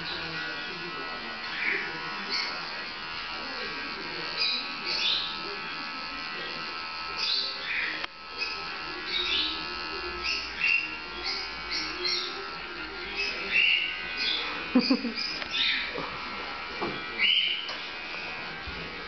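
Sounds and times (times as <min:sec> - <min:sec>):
electric clippers buzzing: 0:00.0 - 0:19.0.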